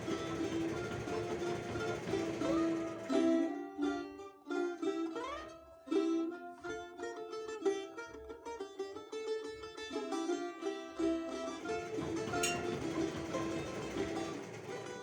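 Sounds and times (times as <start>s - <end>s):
balalaika playing: 0.0s - 15.0s.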